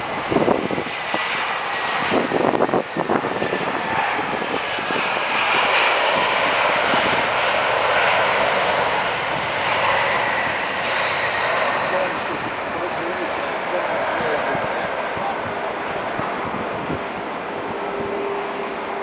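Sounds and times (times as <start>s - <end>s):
jet engine roar with whine: 0.0s - 19.0s
wind buffeting microphone: 0.0s - 19.0s.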